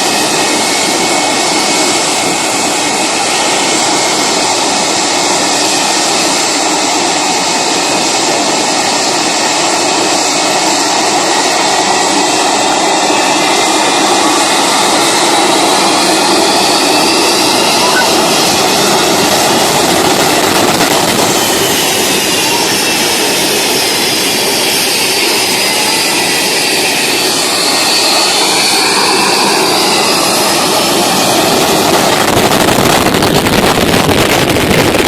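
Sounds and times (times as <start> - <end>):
jet engine exhaust rush: 0.0 - 35.0
jet engine high whine: 0.0 - 35.0.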